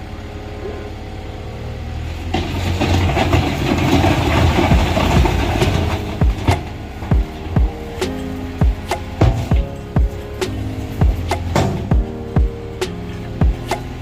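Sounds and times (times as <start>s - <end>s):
bulldozer diesel engine: 0.0s - 14.0s
metallic clanking and rattling: 2.3s - 14.0s.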